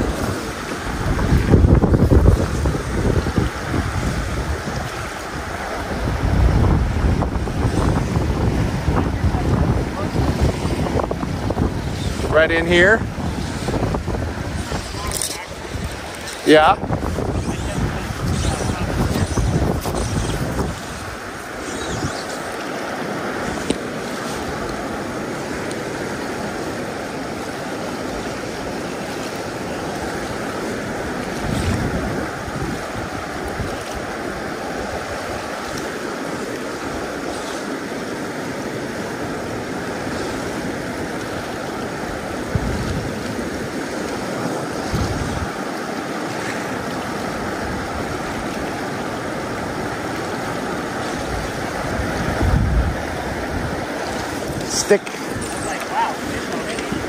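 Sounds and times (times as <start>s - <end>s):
river water rushing around boat: 0.0s - 57.0s.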